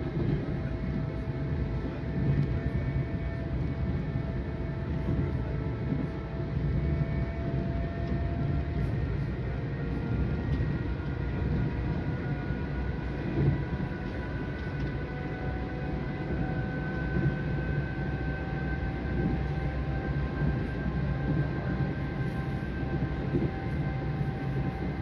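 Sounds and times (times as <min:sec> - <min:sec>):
faint whining tones: 0:00.0 - 0:25.0
train wheels rumbling on rail: 0:00.0 - 0:25.0.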